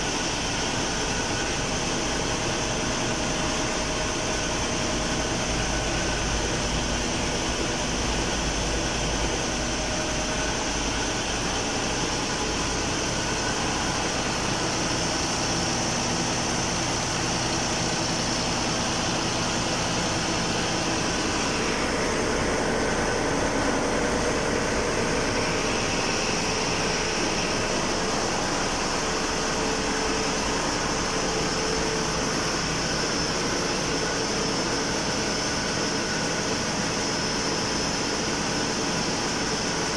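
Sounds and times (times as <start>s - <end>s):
engine room machinery hum: 0.0s - 39.9s.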